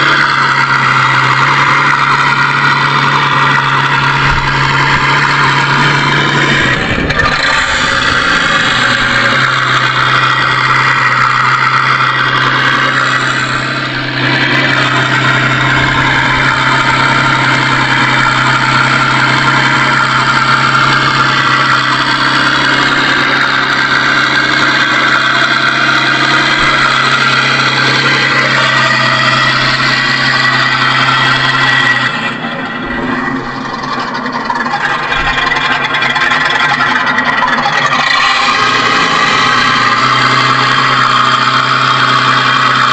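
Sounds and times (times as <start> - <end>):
simulated tank engine idling: 0.0 - 42.9.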